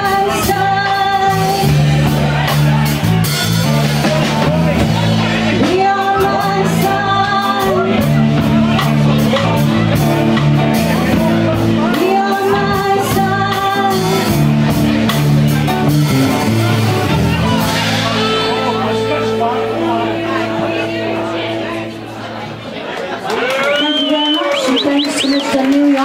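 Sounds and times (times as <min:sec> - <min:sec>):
live band playing slow rock: 0:00.0 - 0:23.7.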